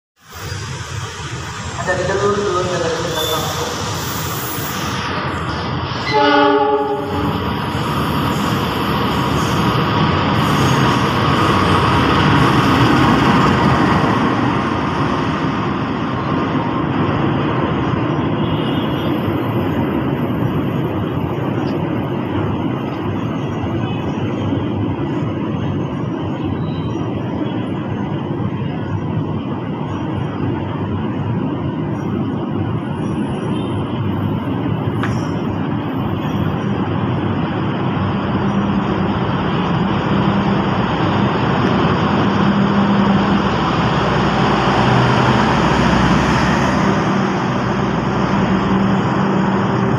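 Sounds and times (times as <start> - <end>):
train wheels rolling on rails: 0.3 - 49.9.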